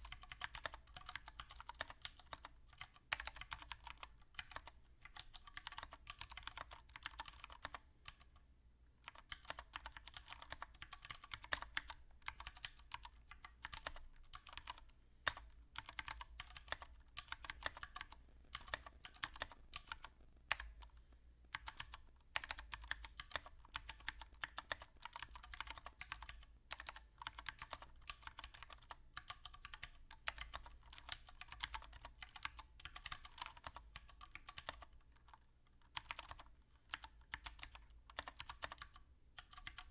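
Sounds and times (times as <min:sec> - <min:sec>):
mechanical keyboard typing: 0:00.0 - 0:08.3, 0:09.0 - 0:20.9, 0:21.5 - 0:39.9.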